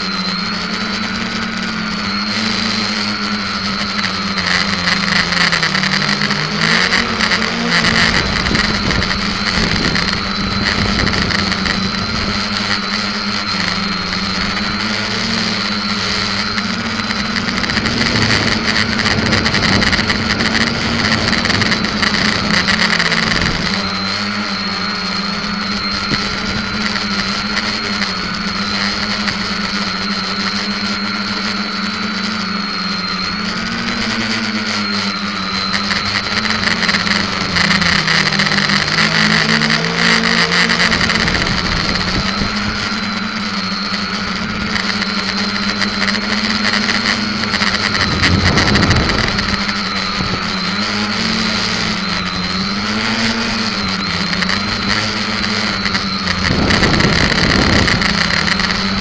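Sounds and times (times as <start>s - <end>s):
quadcopter motors droning: 0.0s - 59.0s
rushing noise: 0.0s - 59.0s.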